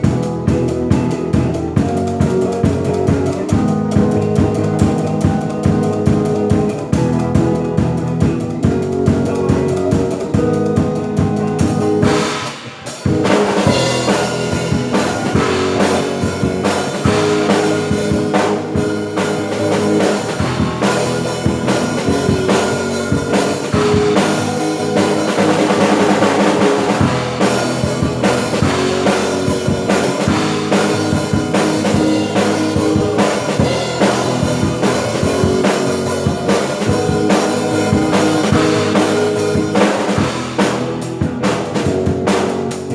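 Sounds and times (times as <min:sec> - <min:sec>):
drum kit: 0:00.0 - 0:42.9
sustained guitar chords: 0:00.0 - 0:42.9
worship band music: 0:00.0 - 0:42.9.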